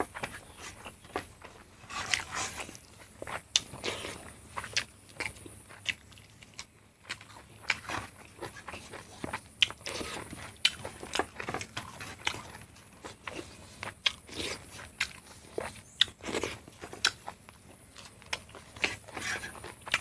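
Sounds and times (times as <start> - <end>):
chewing and lip smacks: 0.0 - 20.0.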